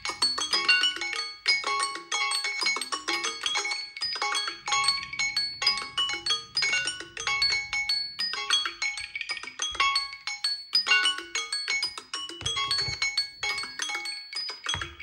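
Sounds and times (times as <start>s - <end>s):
mallet percussion alarm ringtone: 0.0s - 15.0s.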